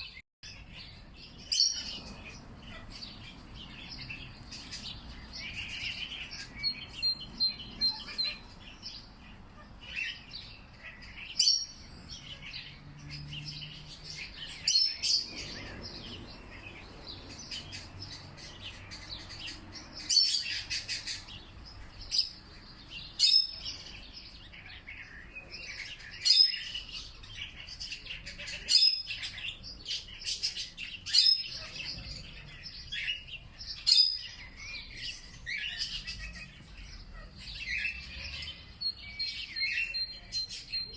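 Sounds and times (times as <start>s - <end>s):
soft bird chirps: 0.0s - 40.9s.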